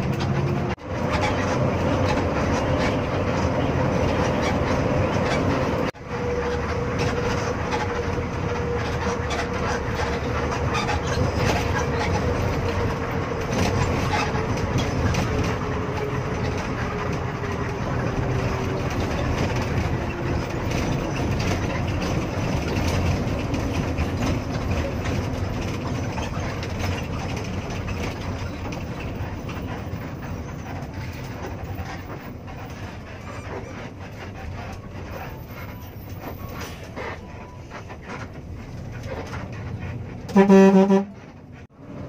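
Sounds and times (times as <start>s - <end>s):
engine and road rumble: 0.0s - 42.0s.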